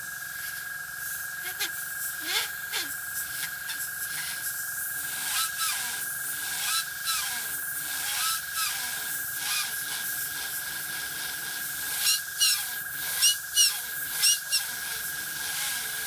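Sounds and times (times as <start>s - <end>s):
airbrush hissing: 0.0s - 16.0s.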